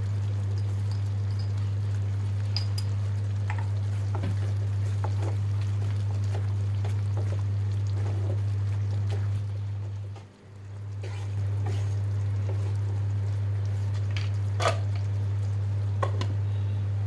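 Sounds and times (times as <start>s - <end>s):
thick sauce bubbling in a pan: 0.0s - 16.2s.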